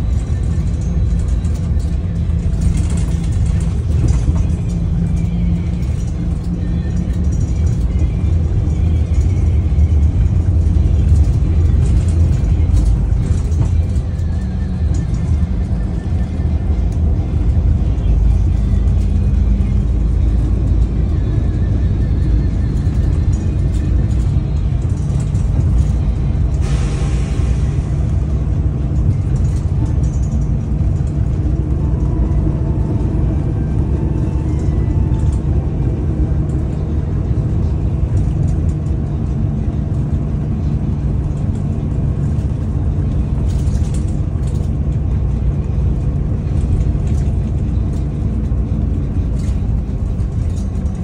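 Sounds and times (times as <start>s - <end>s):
bus engine drone: 0.0s - 51.0s
road rumble: 0.0s - 51.0s.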